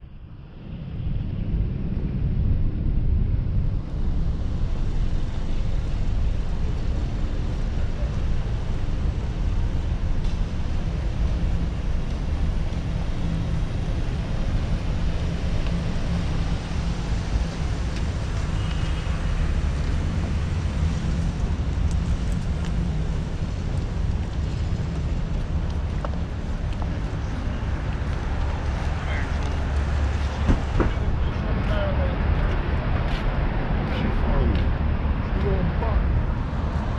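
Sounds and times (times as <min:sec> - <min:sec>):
traffic rumble: 0:00.0 - 0:36.9.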